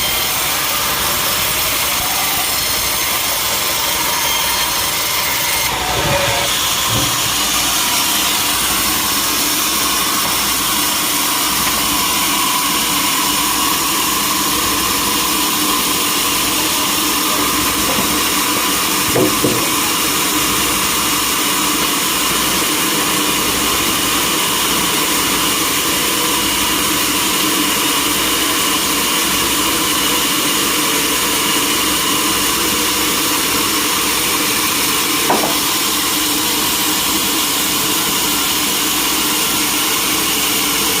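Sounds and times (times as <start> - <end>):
sawmill saw humming: 0.0 - 41.0.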